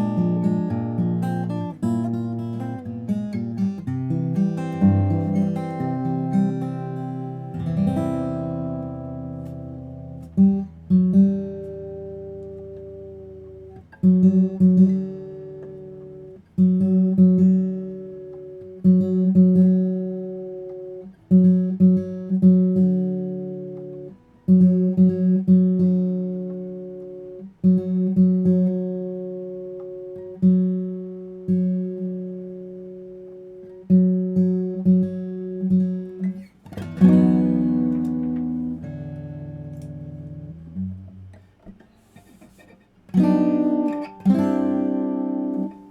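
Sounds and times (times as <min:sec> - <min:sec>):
acoustic guitar chords ringing: 0:00.0 - 0:45.9.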